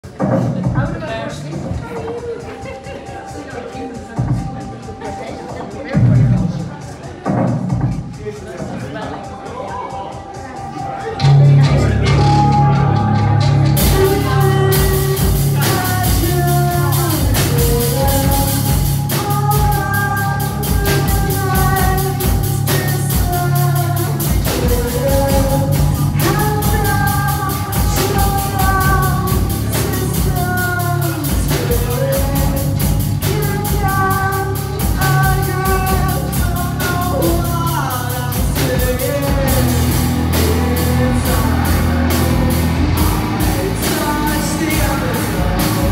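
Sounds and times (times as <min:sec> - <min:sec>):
drum kit: 0:00.0 - 0:45.9
person singing lead vocals: 0:08.7 - 0:45.9
electric guitars: 0:09.0 - 0:45.9.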